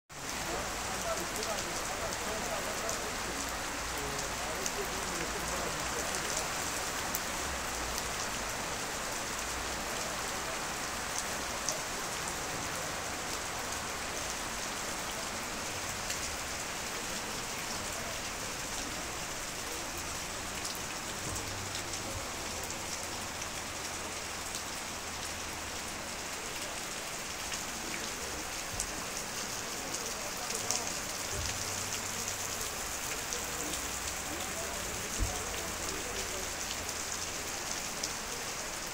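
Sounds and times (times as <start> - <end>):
heavy rain on stone: 0.1 - 38.9.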